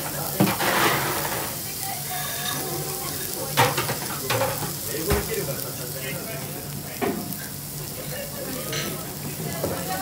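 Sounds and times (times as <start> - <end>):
faint voices: 0.0 - 10.0
meat and onion sizzling on grill pan: 0.0 - 10.0.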